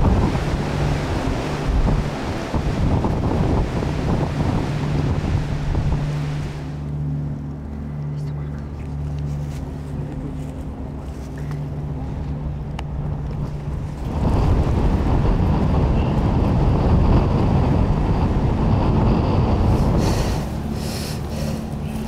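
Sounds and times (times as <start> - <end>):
strong wind buffeting microphone: 0.0 - 7.6, 9.0 - 22.0
low steady hum: 0.0 - 22.0.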